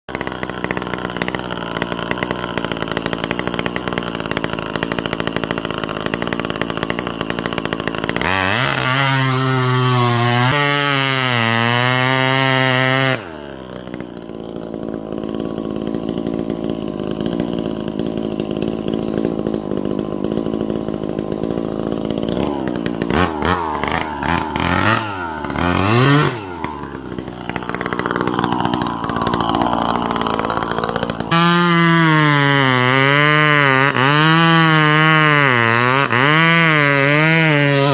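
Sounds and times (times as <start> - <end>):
chainsaw cutting wood: 0.1 - 37.9.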